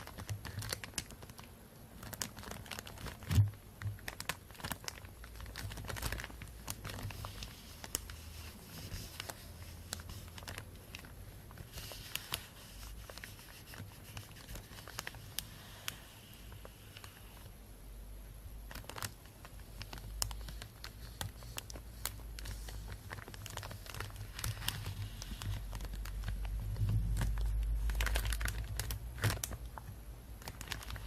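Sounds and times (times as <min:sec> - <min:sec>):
plastic bag crinkling: 0:00.0 - 0:17.5, 0:18.7 - 0:31.0.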